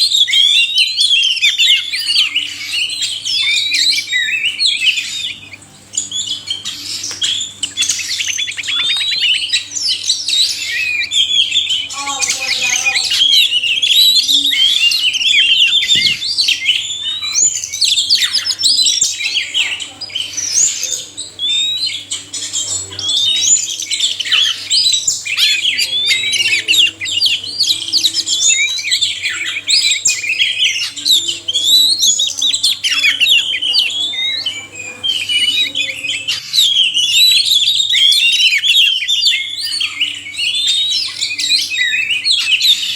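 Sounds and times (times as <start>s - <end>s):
magpie-robins singing: 0.0s - 42.9s.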